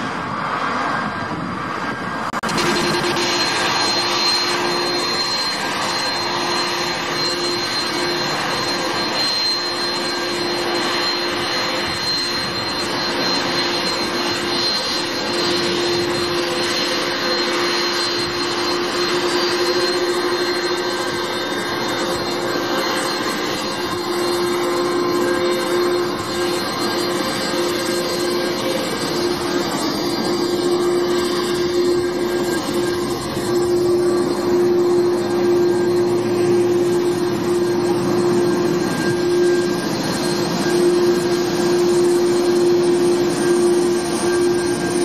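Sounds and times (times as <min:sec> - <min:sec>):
jet engines running: 0:00.0 - 0:45.0.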